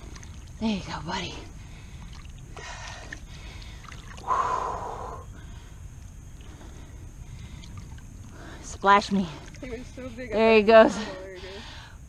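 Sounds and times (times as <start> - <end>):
shallow water sloshing: 0.0 - 11.5.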